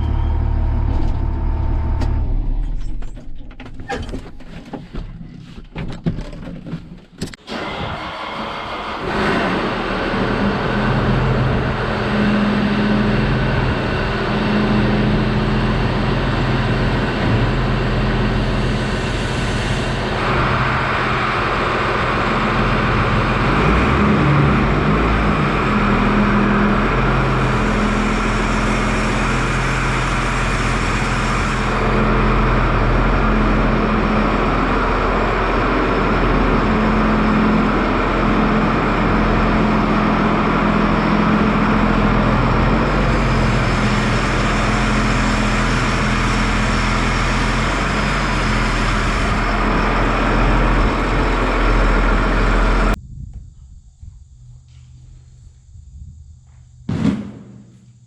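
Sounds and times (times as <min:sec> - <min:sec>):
tractor engine drone: 0:00.0 - 0:05.1, 0:07.1 - 0:58.0.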